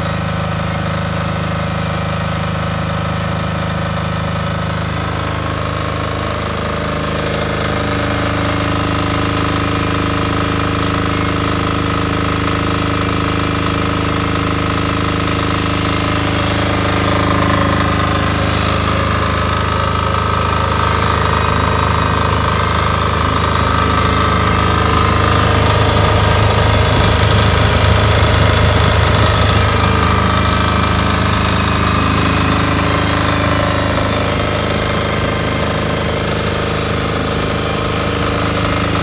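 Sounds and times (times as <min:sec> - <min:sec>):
diesel generator running: 0:00.0 - 0:39.0.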